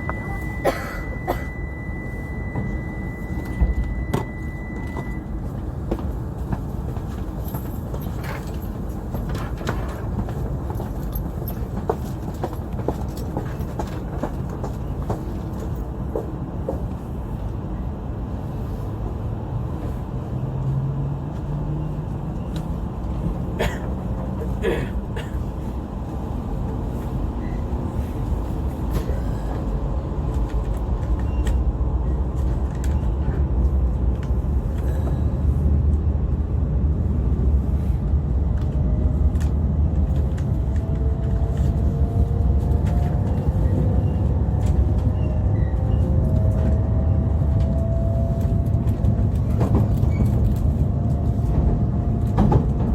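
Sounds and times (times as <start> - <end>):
train rumble: 0.0 - 52.9.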